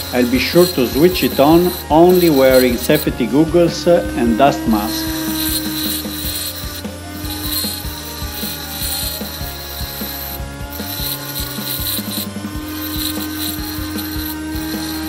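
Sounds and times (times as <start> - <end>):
bench grinder motor whine: 0.0 - 15.0
metal scraping on grinding disc: 0.0 - 15.0.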